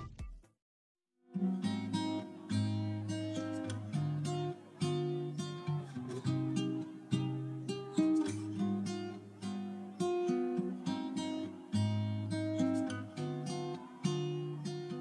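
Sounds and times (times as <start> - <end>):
acoustic guitar music: 1.3 - 15.0.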